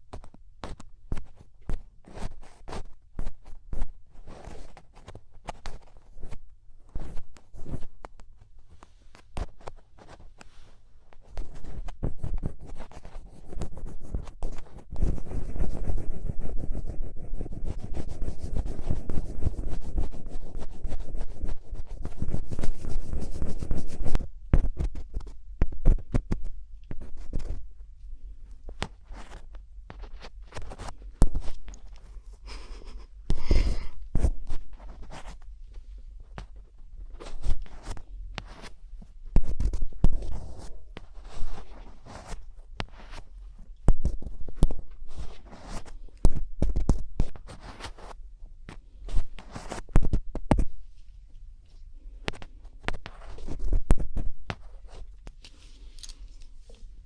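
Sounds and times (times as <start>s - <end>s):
scratching close to microphone: 0.0s - 57.0s.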